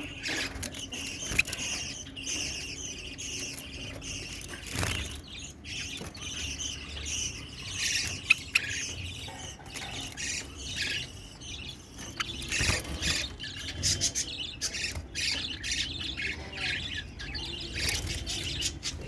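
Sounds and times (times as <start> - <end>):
caged birds chirping and squawking: 0.0 - 19.0.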